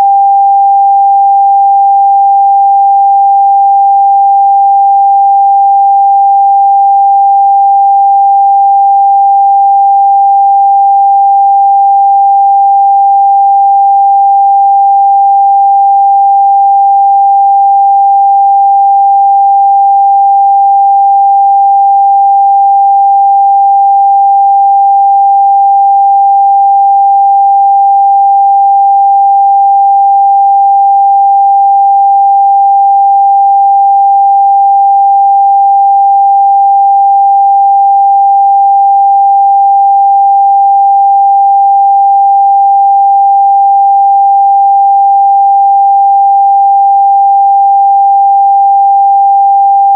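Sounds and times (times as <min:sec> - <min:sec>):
sine wave test tone: 0:00.0 - 0:49.9.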